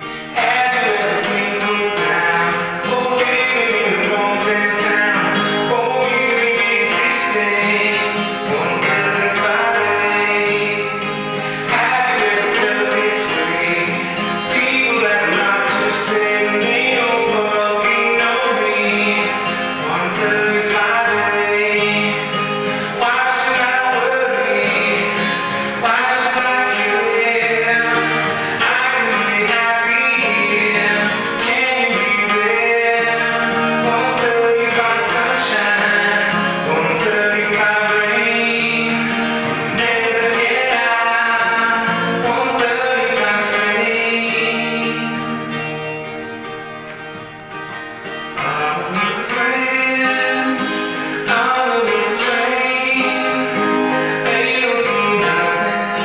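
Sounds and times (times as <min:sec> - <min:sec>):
man singing: 0:00.0 - 0:45.7, 0:48.1 - 0:56.0
acoustic guitar strumming: 0:00.0 - 0:56.0.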